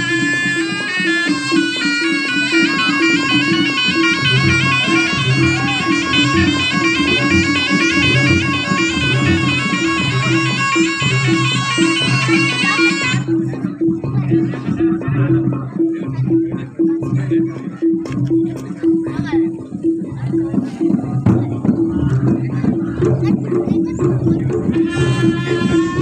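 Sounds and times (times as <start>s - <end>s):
drumming: 0.0s - 26.0s
shawm playing fast melody: 0.0s - 26.0s.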